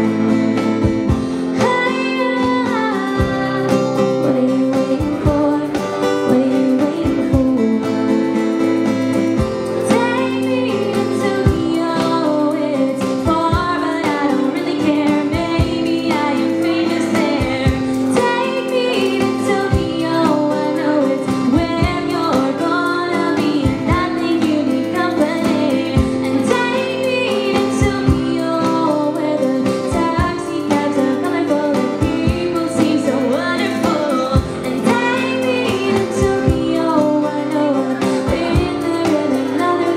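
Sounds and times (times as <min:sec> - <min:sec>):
cajon beats: 0:00.0 - 0:39.9
strummed acoustic guitar: 0:00.0 - 0:39.9
woman singing: 0:00.0 - 0:39.9.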